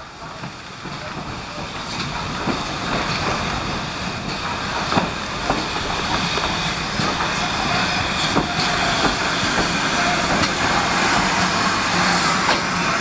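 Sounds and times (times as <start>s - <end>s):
steam hissing: 0.0s - 13.0s
train wheels clicking over rail joints: 0.0s - 13.0s.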